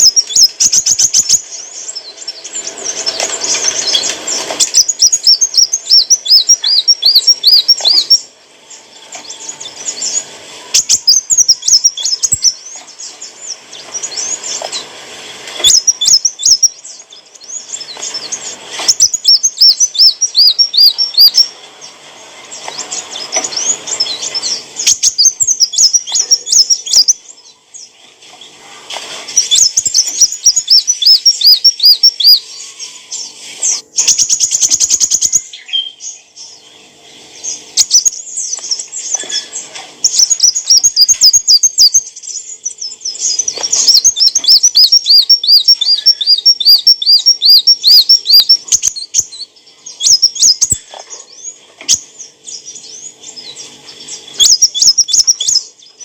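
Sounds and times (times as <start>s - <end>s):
sunbird chirping: 0.0s - 56.0s.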